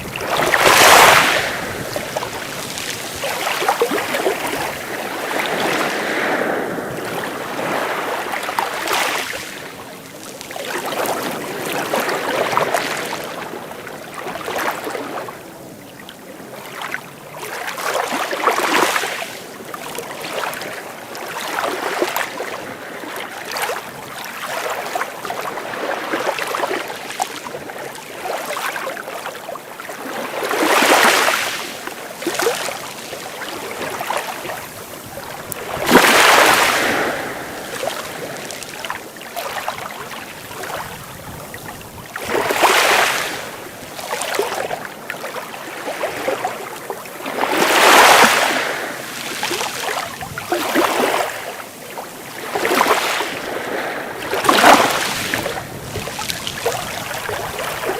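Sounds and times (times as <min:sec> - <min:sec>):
sea waves washing on shore: 0:00.0 - 0:57.9.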